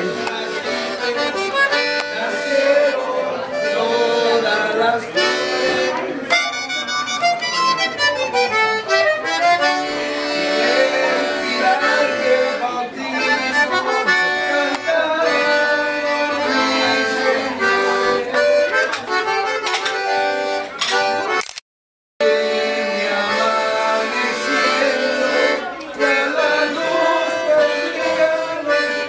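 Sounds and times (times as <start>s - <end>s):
accordion music: 0.0s - 21.6s, 22.2s - 29.0s.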